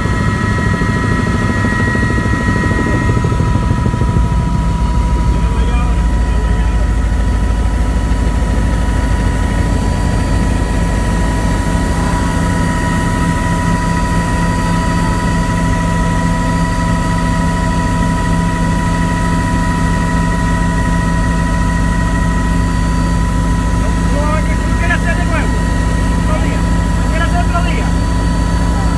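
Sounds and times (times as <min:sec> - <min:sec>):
helicopter rotor beat: 0:00.0 - 0:28.9
helicopter turbine whine: 0:00.0 - 0:28.9.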